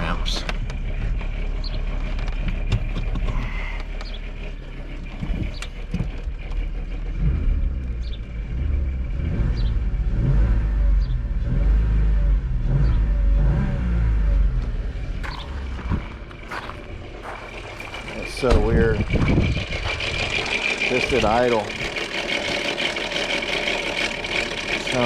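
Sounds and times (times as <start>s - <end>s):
van engine running: 0.0s - 25.0s.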